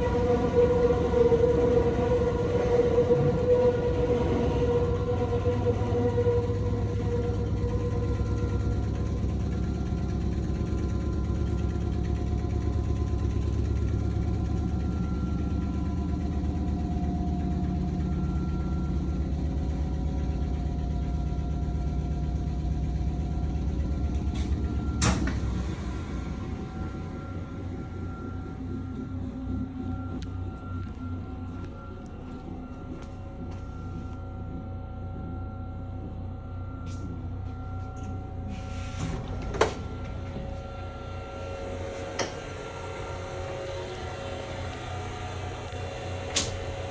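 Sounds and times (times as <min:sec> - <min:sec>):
faint wavering tones: 0:00.0 - 0:46.2
train running rumble: 0:00.0 - 0:46.9.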